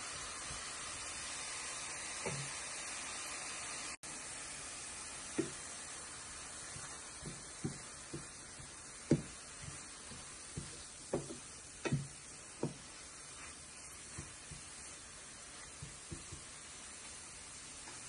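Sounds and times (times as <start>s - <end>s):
vegetables sizzling: 0.0s - 18.0s.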